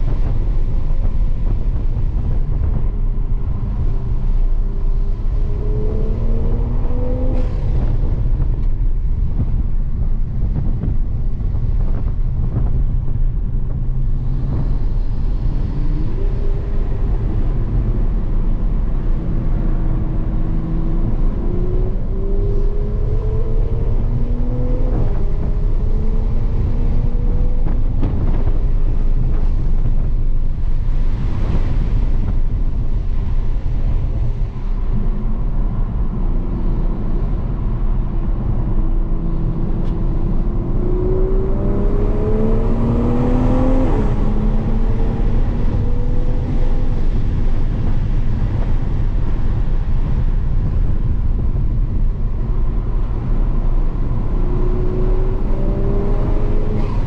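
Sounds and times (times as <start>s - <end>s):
car engine accelerating: 0.0s - 57.0s
road and wind noise rumble: 0.0s - 57.0s.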